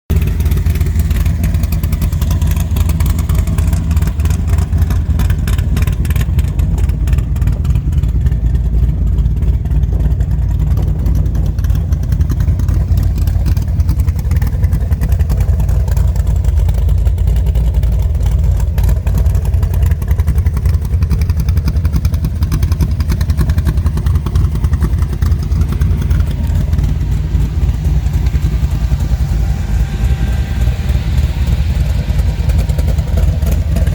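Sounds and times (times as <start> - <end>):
engine running loud: 0.1 - 33.9.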